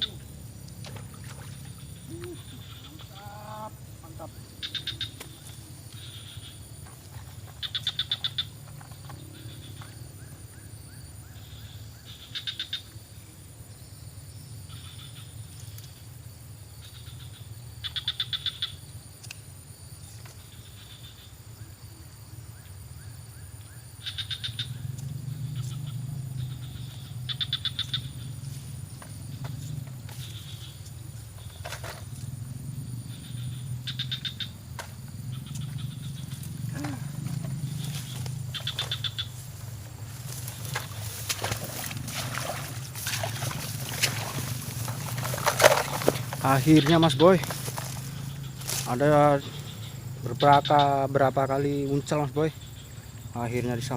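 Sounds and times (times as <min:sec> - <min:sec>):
rattling animal calls: 0:00.0 - 0:12.9, 0:14.6 - 0:16.1, 0:16.8 - 0:19.1, 0:23.1 - 0:53.9
high-pitched insect-like whine: 0:00.0 - 0:53.9.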